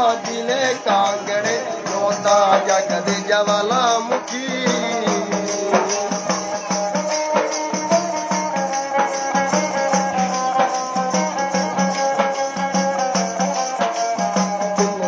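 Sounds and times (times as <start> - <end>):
rattling percussion: 0.0 - 15.0.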